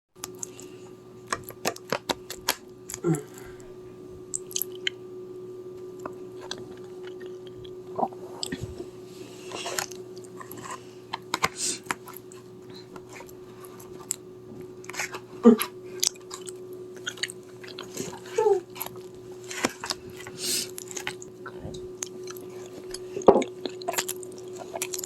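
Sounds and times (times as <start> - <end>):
food being chewed: 0.2 - 3.0, 4.3 - 5.0, 5.9 - 25.0
faint steady hum: 0.2 - 25.0.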